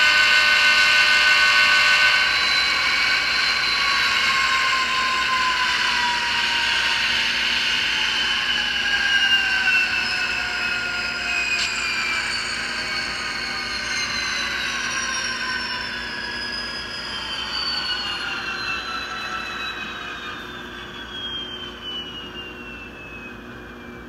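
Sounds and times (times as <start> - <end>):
diesel engine sound winding down: 0.8 - 24.0.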